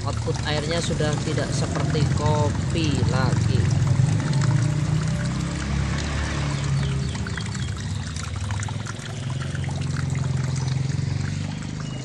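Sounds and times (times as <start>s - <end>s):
washing machine draining water: 0.0s - 12.0s.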